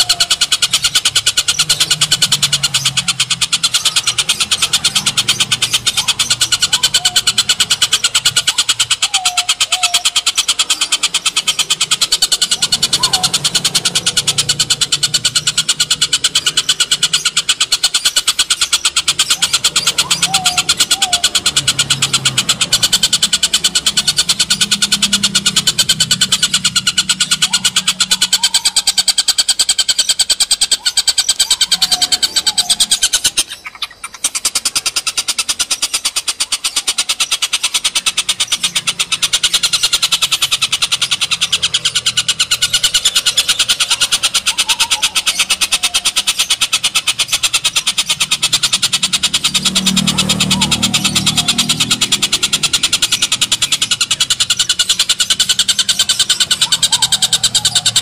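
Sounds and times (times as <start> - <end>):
bird's harsh rattling cackle: 0.0 - 58.0.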